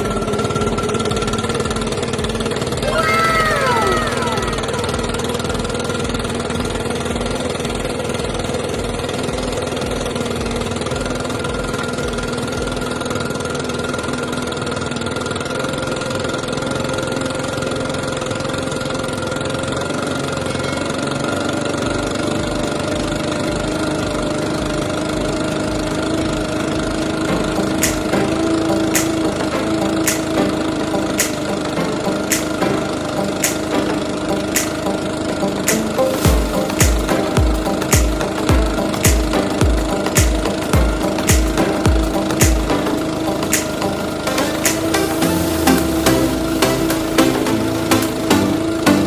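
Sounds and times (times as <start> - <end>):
leaf blower engine running: 0.0 - 49.0.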